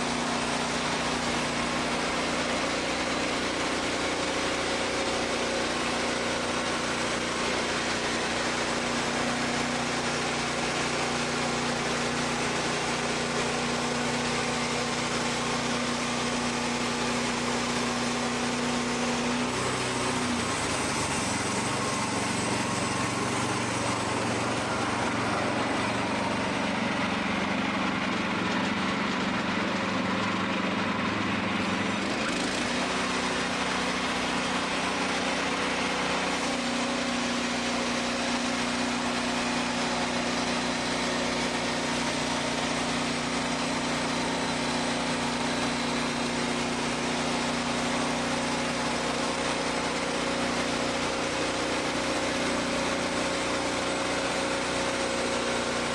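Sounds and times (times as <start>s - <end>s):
band blade sawing log: 0.0s - 55.9s
sawmill engine humming: 0.0s - 55.9s.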